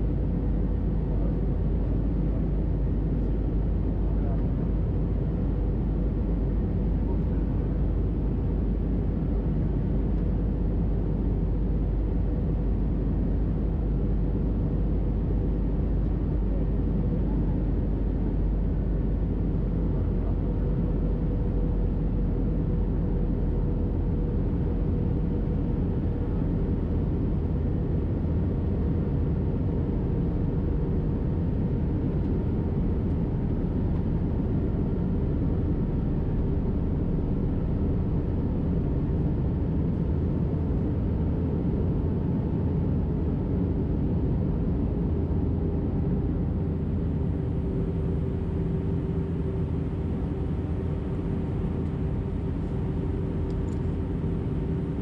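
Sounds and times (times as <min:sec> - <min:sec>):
aircraft cabin rumble: 0:00.0 - 0:55.0
faint steady hum: 0:00.0 - 0:55.0.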